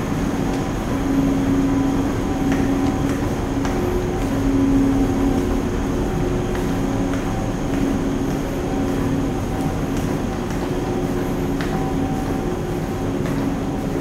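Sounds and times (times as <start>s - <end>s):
humming tone: 0.0s - 14.0s
ship diesel engine drone: 0.0s - 14.0s.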